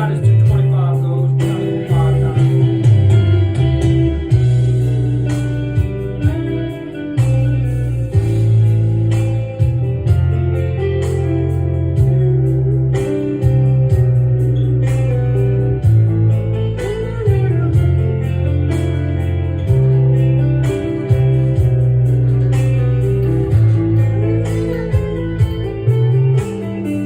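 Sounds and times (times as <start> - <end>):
guitar music with bass line: 0.0 - 27.0.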